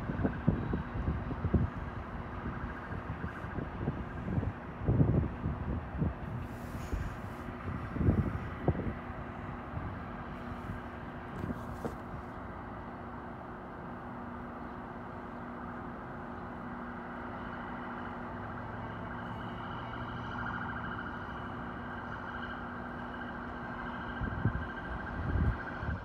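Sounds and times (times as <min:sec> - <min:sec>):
train electrical hum: 0:00.0 - 0:26.0.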